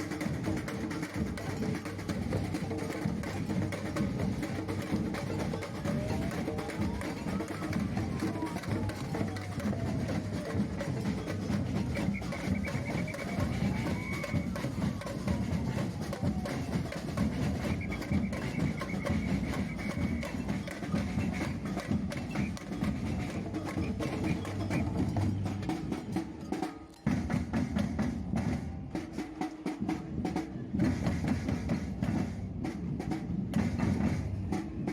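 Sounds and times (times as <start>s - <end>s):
samba drums: 0.0s - 34.9s.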